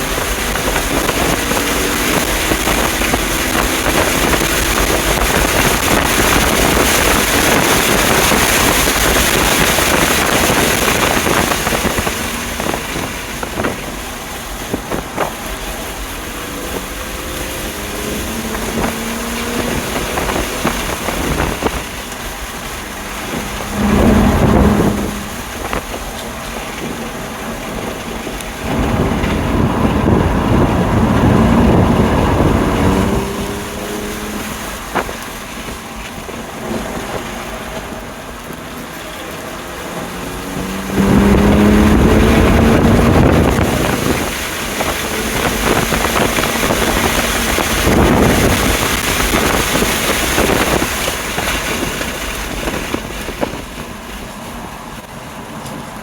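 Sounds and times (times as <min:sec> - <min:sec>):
tyre noise: 0:00.0 - 0:54.9
car engine accelerating and shifting: 0:00.0 - 0:56.0
wind noise: 0:00.0 - 0:56.0.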